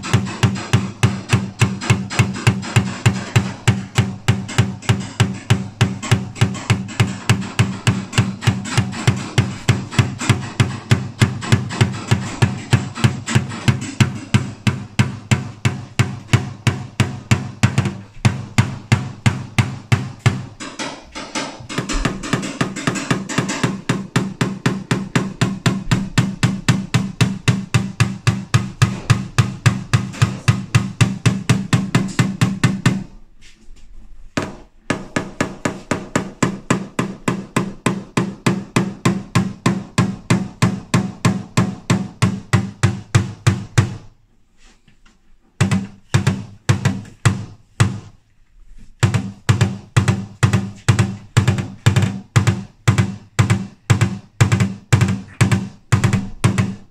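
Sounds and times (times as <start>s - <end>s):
hammer tapping metal punch: 0.0s - 33.1s, 34.4s - 44.1s, 45.6s - 48.1s, 49.0s - 56.9s.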